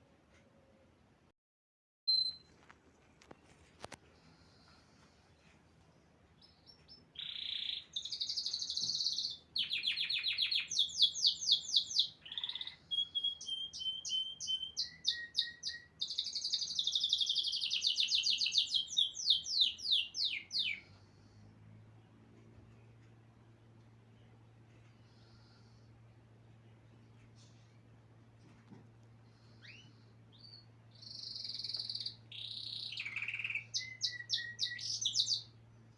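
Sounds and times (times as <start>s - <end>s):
songbird singing trills: 2.1s - 2.6s, 6.0s - 27.6s, 29.2s - 35.9s.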